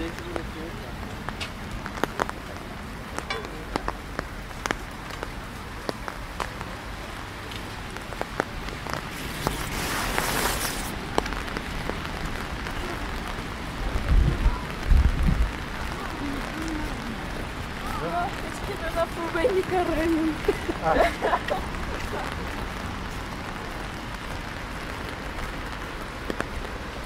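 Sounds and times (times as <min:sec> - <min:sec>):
rain pattering: 0:00.0 - 0:27.0.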